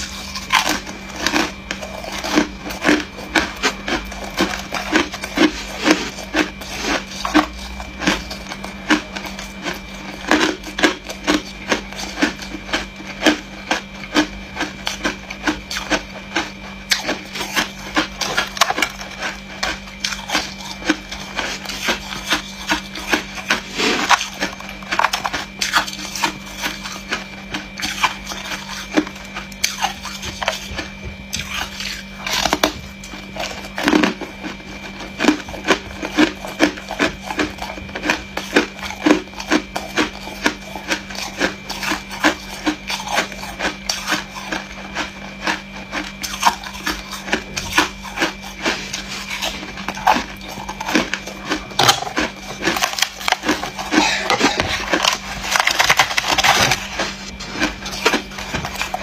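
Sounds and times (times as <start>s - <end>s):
ice being chewed: 0.0s - 59.0s
steady faint hum: 0.0s - 59.0s.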